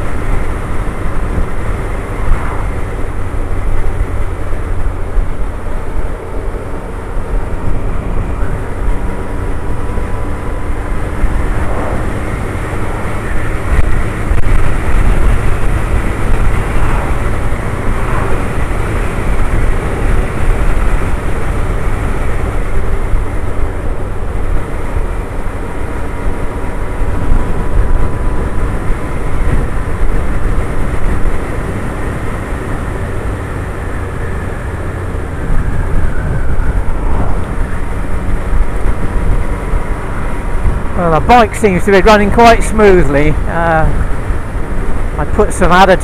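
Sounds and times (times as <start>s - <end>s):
motorcycle engine cruising: 0.0s - 46.0s
wind and road noise: 0.0s - 46.0s.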